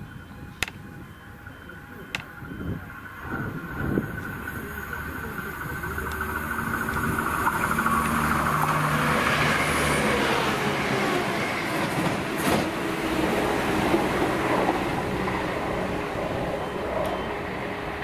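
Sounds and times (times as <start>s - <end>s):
train running past: 0.0s - 18.0s.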